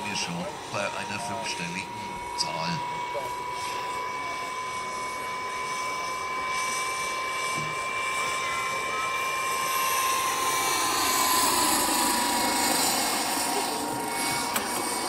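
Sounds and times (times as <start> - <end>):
helicopter rotor noise: 0.0 - 15.0
model helicopter gearbox whine: 0.0 - 15.0.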